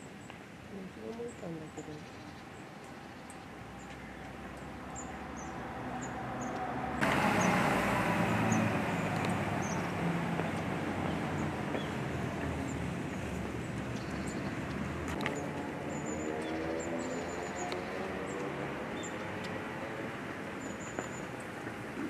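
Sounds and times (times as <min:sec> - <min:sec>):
vehicle rumble: 0:03.1 - 0:22.0.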